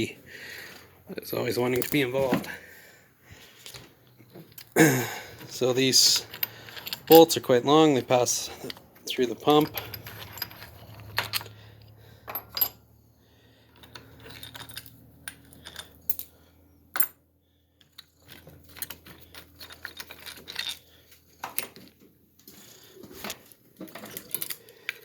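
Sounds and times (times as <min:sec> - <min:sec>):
metal parts clicking and clinking: 0:01.4 - 0:02.5, 0:03.6 - 0:13.0, 0:13.6 - 0:17.2, 0:17.8 - 0:25.0.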